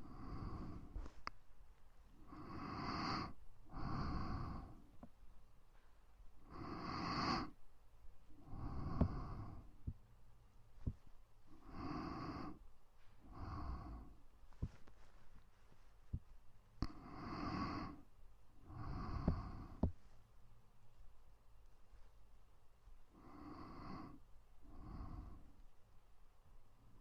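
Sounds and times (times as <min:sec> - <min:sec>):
close-miked breathing: 0:00.0 - 0:21.0, 0:21.6 - 0:26.0.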